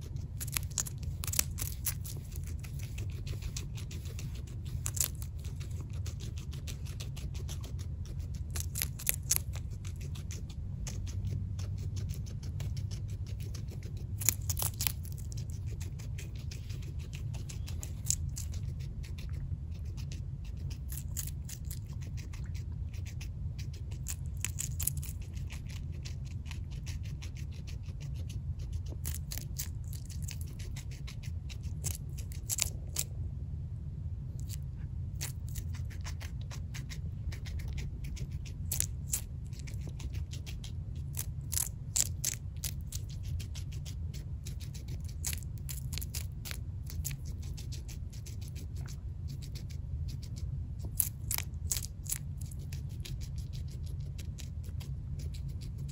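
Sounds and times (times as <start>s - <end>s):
guinea pig crunching pepper: 0.0s - 33.3s, 34.2s - 55.9s.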